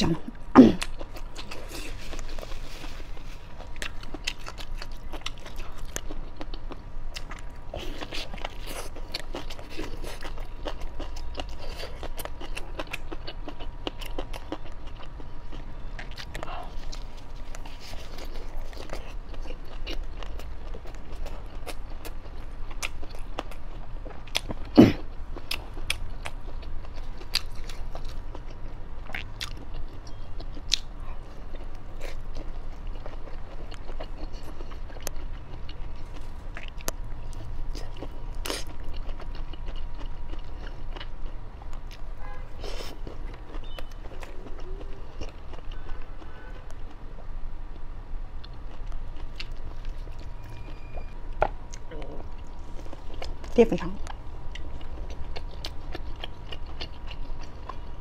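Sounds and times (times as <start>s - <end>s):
chewing food close up: 0.0s - 58.0s.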